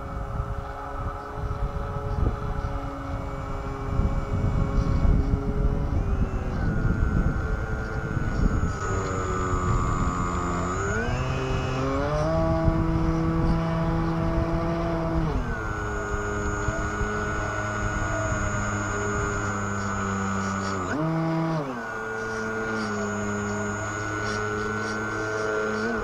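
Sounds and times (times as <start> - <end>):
electric motor and propeller whining: 0.0 - 26.0
wind rumble on microphone: 0.0 - 26.0.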